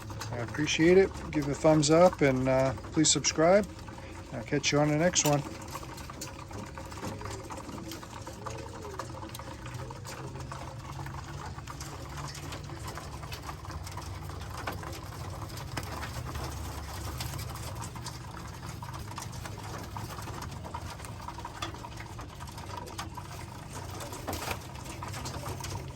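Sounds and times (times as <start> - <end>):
pigeons cooing: 0.0 - 25.9
pigeons pecking at feed: 0.0 - 25.9.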